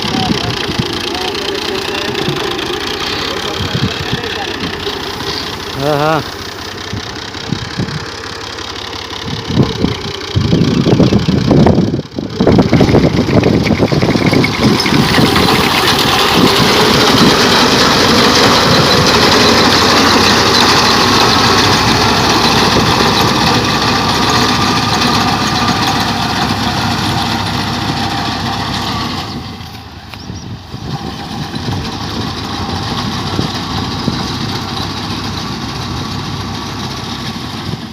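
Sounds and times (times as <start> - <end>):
harvester engine running: 0.0 - 37.9.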